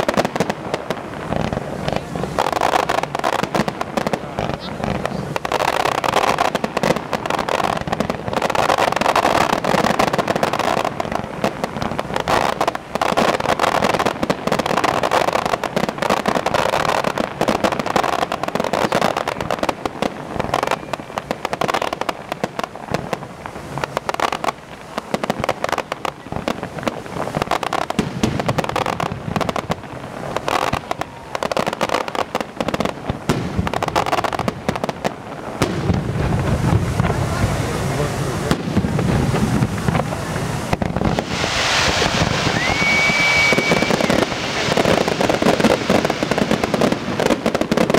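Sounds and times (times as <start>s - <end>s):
fireworks banging and crackling: 0.0s - 47.9s.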